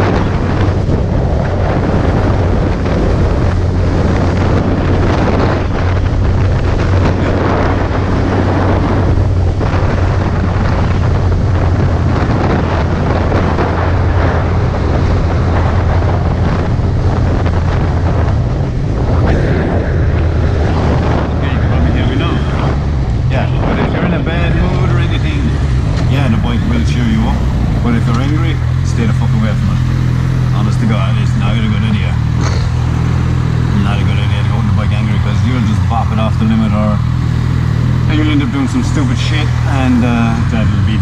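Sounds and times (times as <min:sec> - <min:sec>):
motorcycle engine drone: 0:00.0 - 0:41.0
wind rushing over microphone: 0:00.0 - 0:41.0.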